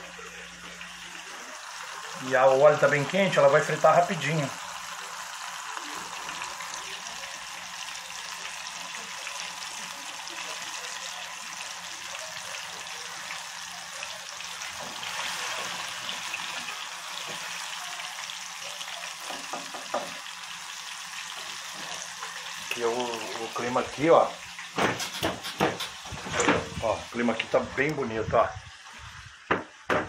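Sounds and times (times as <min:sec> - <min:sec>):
oil sizzling and crackling: 0:00.0 - 0:30.0.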